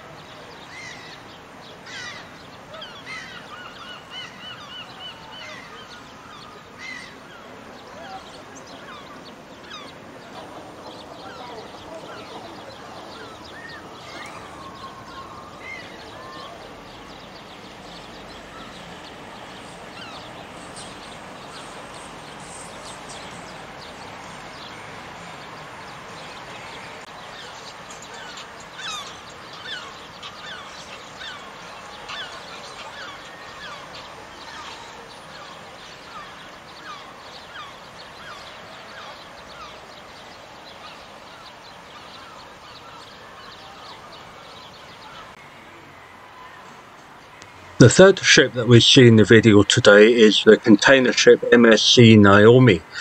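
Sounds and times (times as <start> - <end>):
birds chirping: 0.0 - 53.0
steady background hiss: 0.0 - 53.0.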